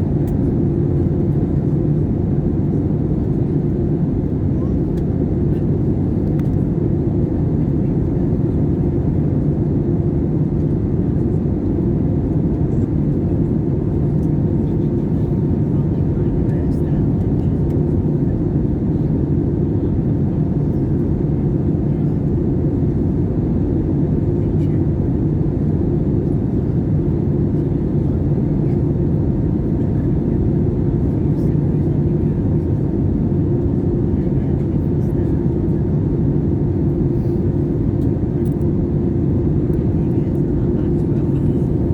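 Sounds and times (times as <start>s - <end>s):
aircraft engine and airflow rush: 0.0s - 41.9s.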